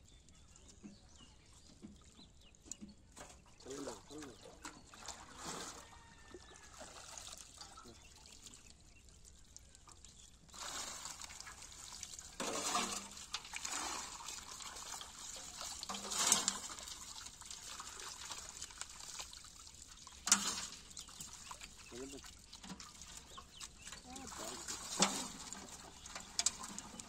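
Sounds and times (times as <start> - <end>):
water splashing and dripping: 0.5 - 27.0.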